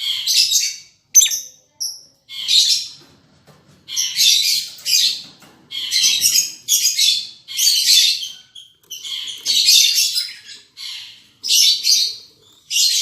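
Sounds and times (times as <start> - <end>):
lovebirds chattering: 0.0 - 3.0, 3.9 - 13.0.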